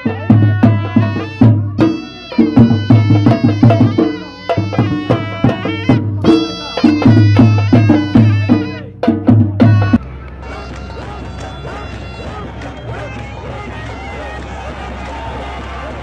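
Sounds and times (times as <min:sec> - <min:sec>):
drum beaten with sticks: 0:00.0 - 0:13.2
wind instrument melody: 0:00.0 - 0:16.0.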